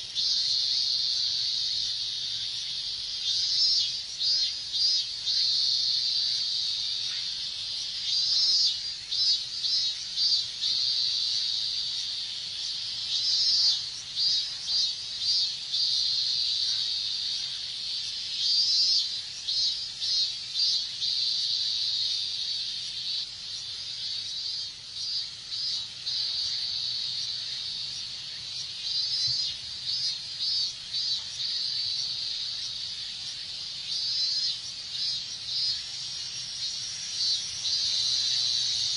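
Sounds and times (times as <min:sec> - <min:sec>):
cicadas singing: 0:00.0 - 0:38.9.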